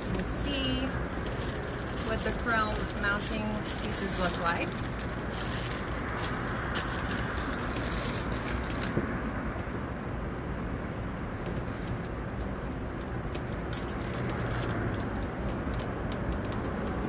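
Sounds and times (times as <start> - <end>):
packaging crinkling and rustling: 0.0 - 9.2, 11.6 - 16.9.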